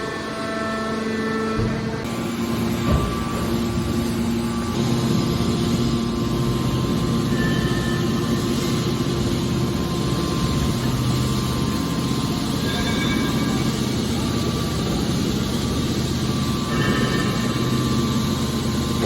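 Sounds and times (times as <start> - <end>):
hydraulic machine humming: 0.0 - 19.0.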